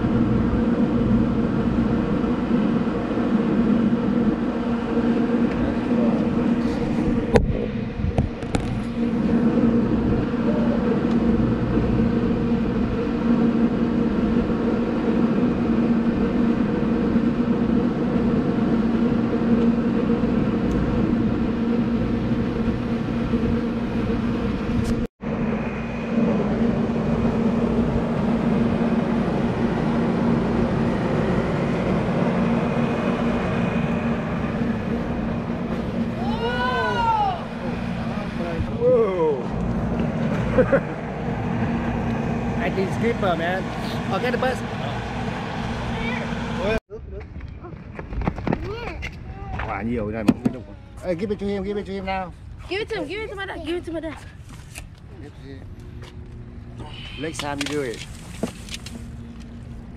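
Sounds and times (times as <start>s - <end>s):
engine droning hum: 0.0s - 59.9s.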